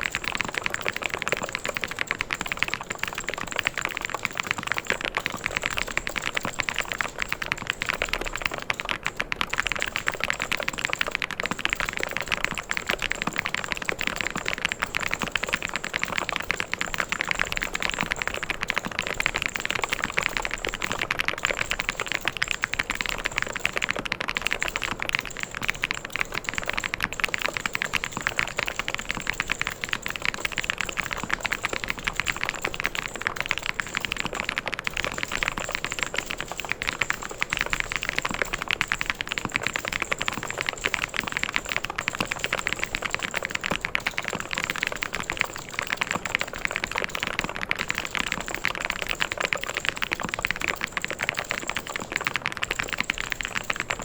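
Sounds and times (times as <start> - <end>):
typing on mechanical keyboard: 0.0 - 54.0.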